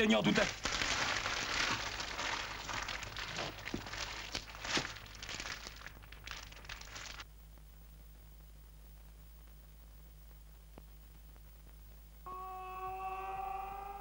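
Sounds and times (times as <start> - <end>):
dense crackling and crinkling: 0.0 - 12.3
faint electrical hum: 0.0 - 14.0.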